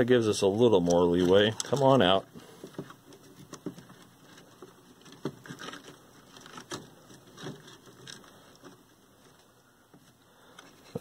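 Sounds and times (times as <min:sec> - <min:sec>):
clicks and rustles of handled circuit board: 0:00.7 - 0:11.0.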